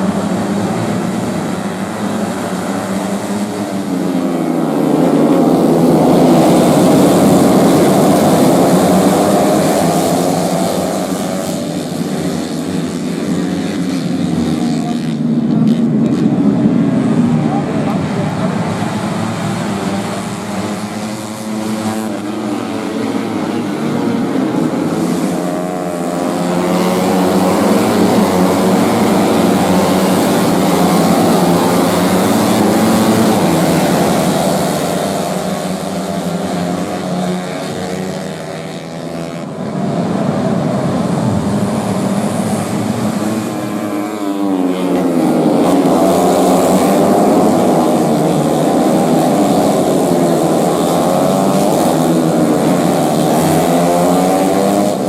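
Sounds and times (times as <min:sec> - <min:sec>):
racing motorcycles passing: 0:00.0 - 0:55.0.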